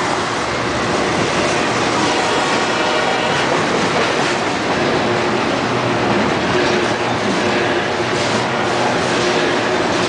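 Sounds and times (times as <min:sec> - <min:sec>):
steel train wheels on rails: 0:00.0 - 0:10.0.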